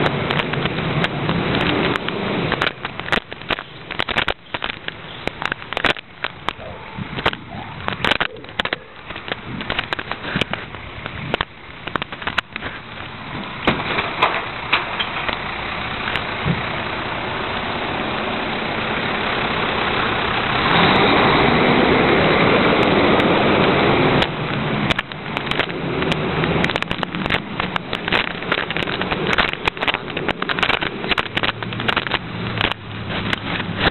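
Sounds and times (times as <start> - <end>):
recycling truck engine running: 0.0 - 33.9
sharp clanks and rattles: 0.0 - 33.9.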